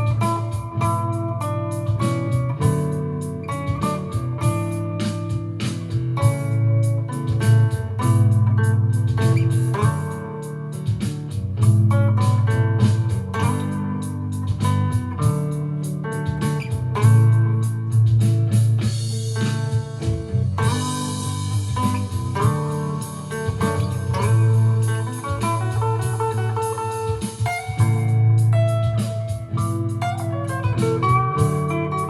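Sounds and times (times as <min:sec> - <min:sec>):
guitar playing melodic lead lines: 0:00.0 - 0:32.0
looped backing music: 0:00.0 - 0:32.0.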